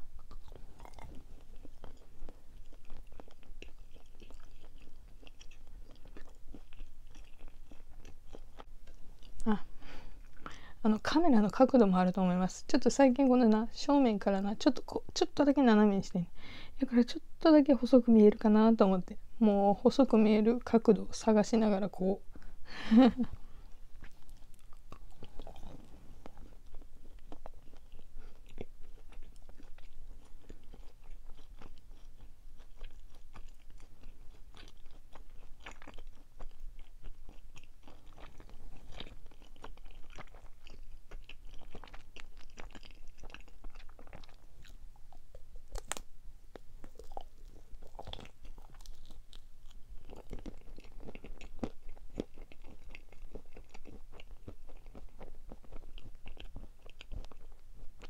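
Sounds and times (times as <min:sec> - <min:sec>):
close chewing with mouth clicks: 0:00.0 - 0:13.6, 0:21.7 - 0:58.0.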